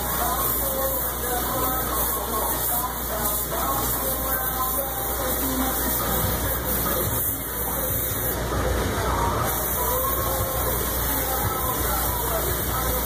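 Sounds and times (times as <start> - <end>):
spray gun hissing compressed air: 0.0 - 13.0.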